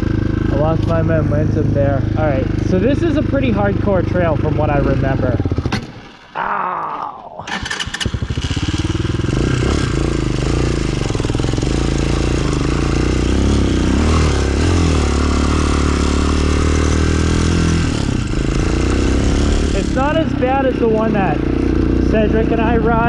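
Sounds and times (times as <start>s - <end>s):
dirt bike engine chugging and revving: 0.0s - 6.0s, 7.5s - 23.0s.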